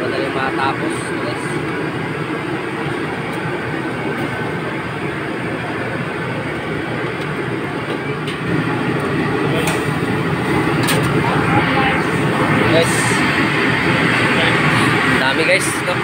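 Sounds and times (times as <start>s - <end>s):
kitchen equipment roaring: 0.0s - 16.0s.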